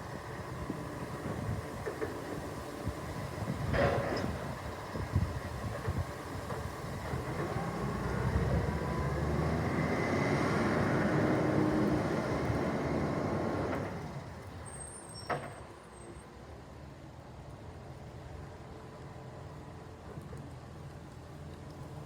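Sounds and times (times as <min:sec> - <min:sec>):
recycling truck running: 0:00.0 - 0:22.0.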